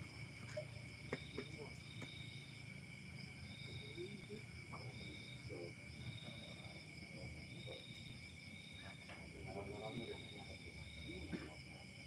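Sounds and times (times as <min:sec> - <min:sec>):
insect steady high trill: 0:00.0 - 0:12.0.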